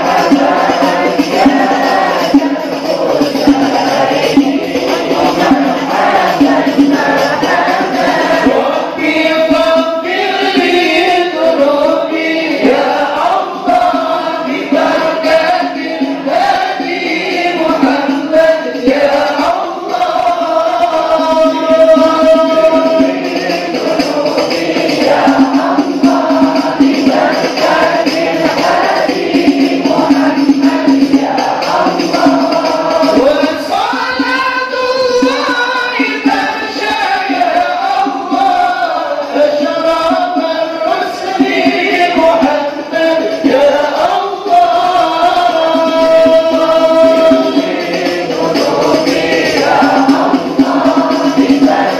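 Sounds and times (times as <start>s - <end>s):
congregation chanting: 0.0s - 51.9s
percussion strokes: 0.0s - 51.9s.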